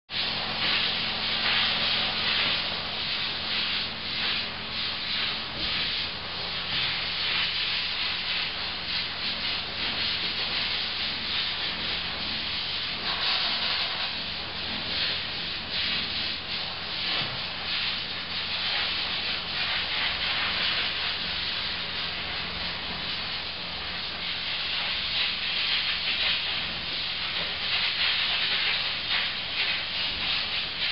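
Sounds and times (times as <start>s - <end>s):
exhaust fan hum: 0.1s - 30.9s
spray guns hissing: 0.2s - 30.9s.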